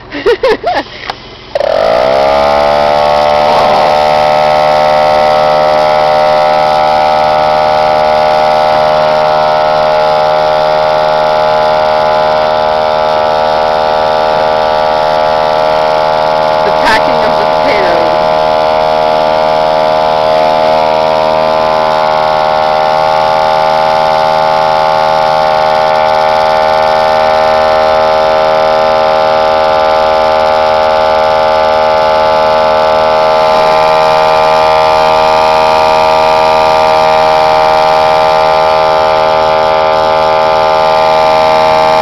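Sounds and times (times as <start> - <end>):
electric air compressor humming: 0.0 - 42.0
high whine: 0.0 - 42.0.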